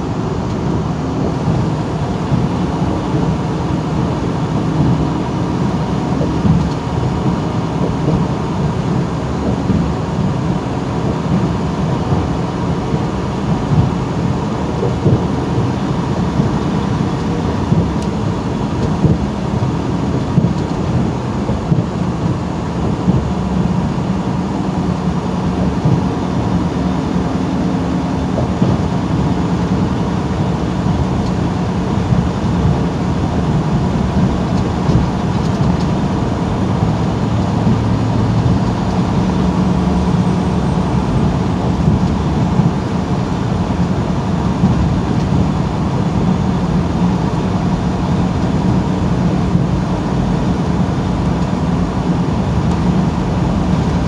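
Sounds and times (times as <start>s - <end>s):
truck engine and tyre drone: 0.0s - 54.0s.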